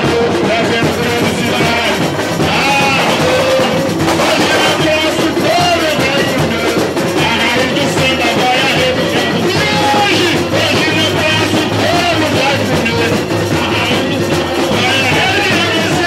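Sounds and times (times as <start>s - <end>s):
person singing into a microphone: 0.0s - 16.0s
voices singing along: 0.0s - 16.0s.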